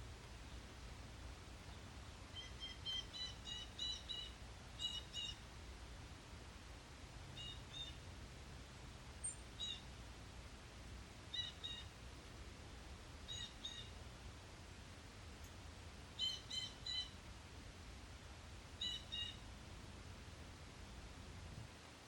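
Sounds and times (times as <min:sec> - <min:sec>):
faint low rumble: 0:00.0 - 0:22.0.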